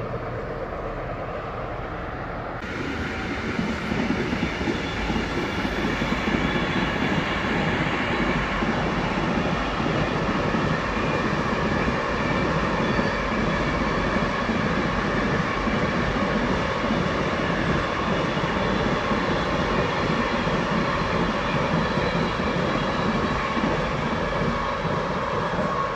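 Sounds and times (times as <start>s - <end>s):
train wheels on rail: 0.0s - 25.9s.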